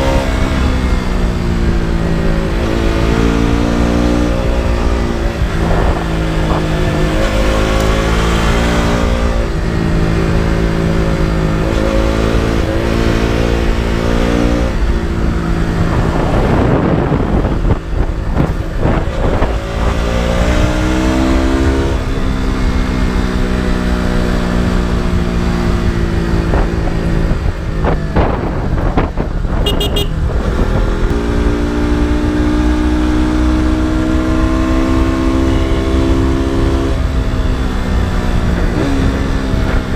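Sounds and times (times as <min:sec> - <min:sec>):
wind rush: 0:00.0 - 0:35.1
motorcycle engine revving: 0:00.0 - 0:39.9.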